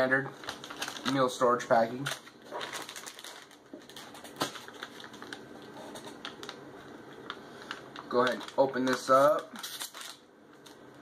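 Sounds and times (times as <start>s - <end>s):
plastic pouch crinkling: 0.3s - 10.8s.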